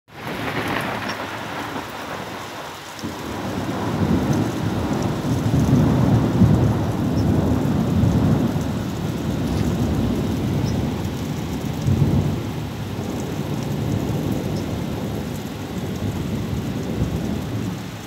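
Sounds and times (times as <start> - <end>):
floodwater rushing across road: 0.1 - 18.0
rain: 0.1 - 18.0.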